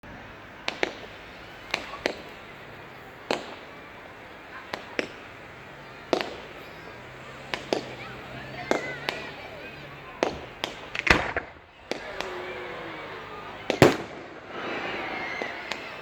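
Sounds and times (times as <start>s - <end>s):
fireworks bangs: 0.2s - 16.0s.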